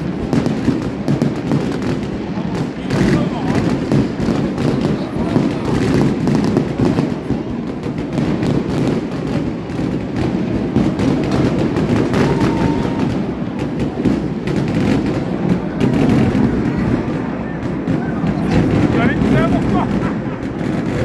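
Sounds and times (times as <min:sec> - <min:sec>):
fireworks bangs and crackles: 0:00.0 - 0:21.0
stadium crowd noise: 0:00.0 - 0:21.0.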